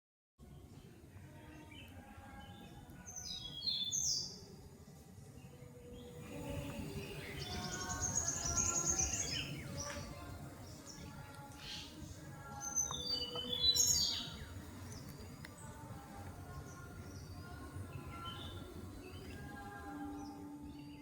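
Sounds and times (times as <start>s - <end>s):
birds chirping and calling: 1.6s - 4.4s, 5.8s - 21.0s.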